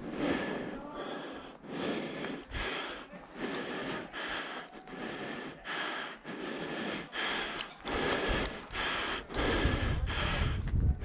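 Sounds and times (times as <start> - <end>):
person breathing hard: 0.0 - 11.0.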